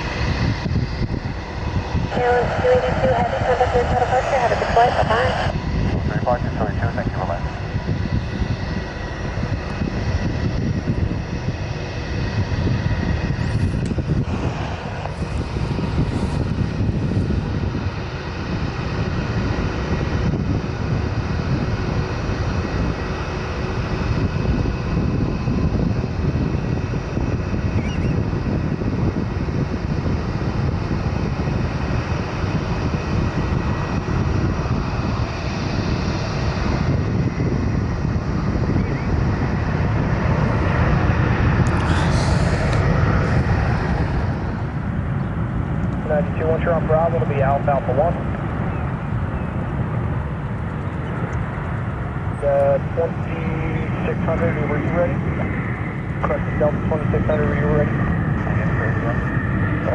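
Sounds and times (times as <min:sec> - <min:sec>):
jet engine roar: 0:00.0 - 0:59.9
wind buffeting microphone: 0:00.0 - 0:59.9.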